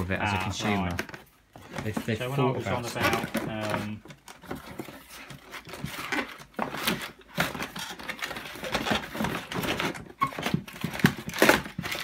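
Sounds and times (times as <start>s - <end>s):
cardboard and plastic rustling: 0.0s - 12.0s.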